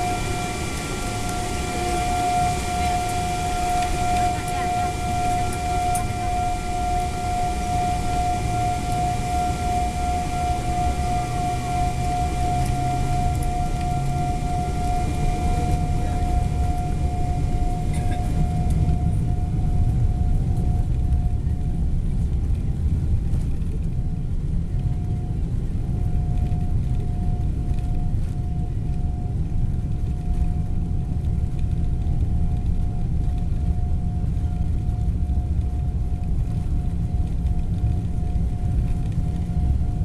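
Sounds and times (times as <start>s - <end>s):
thin whine: 0.0s - 22.6s, 23.3s - 40.0s
aircraft cabin rumble: 0.0s - 40.0s.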